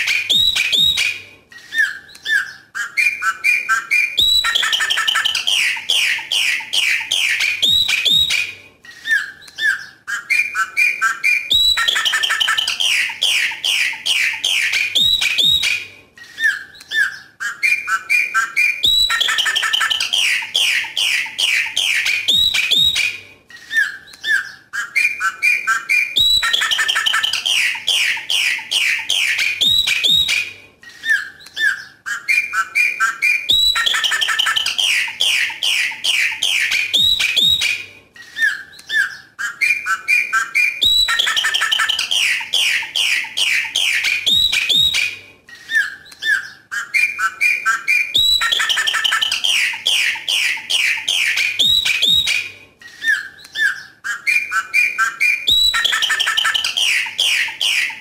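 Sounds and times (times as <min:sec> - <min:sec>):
blackbird singing whistled notes: 0:00.0 - 0:58.0.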